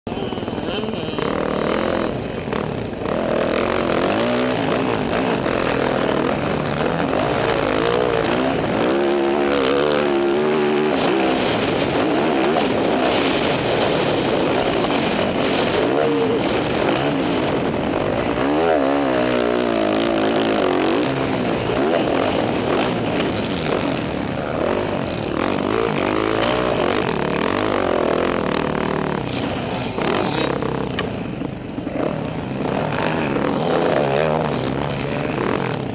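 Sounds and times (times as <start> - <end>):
dirt bike engine revving: 0.1 - 35.9.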